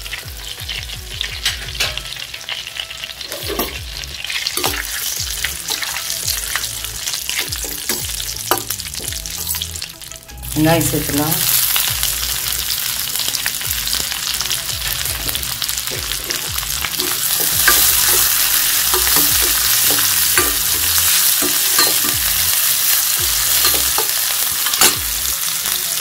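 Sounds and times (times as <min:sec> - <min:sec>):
onion sizzling in a pan: 0:00.0 - 0:26.0.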